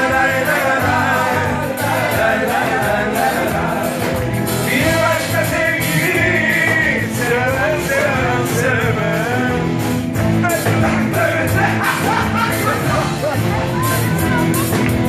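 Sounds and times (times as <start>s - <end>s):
person singing: 0.0s - 14.8s
drum kit: 0.0s - 15.0s
electric guitar: 0.0s - 15.0s.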